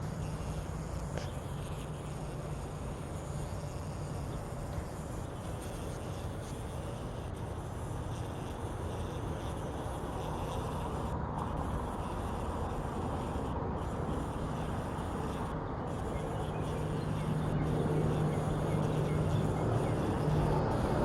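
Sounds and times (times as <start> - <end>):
bee buzzing: 0.0 - 21.0.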